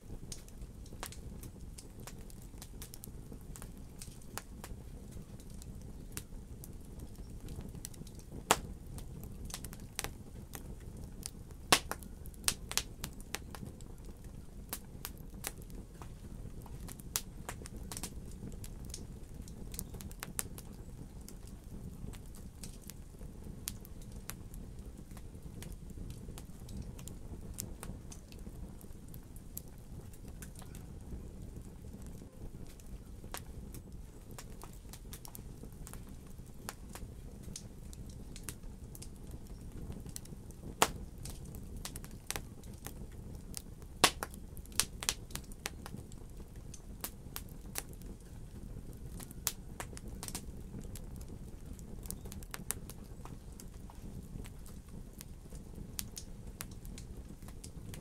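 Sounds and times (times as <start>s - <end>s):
fire crackling and popping: 0.0s - 58.0s
rumble of fire flames: 0.0s - 58.0s.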